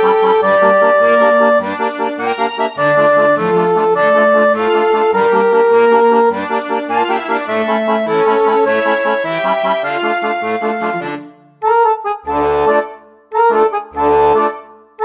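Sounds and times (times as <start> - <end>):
instrumental music with bouncing bass: 0.0 - 15.0.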